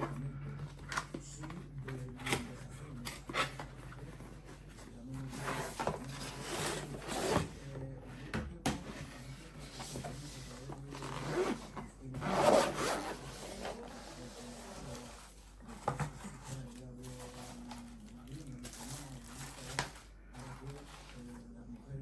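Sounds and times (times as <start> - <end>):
objects rubbing and scraping: 0.0 - 22.0.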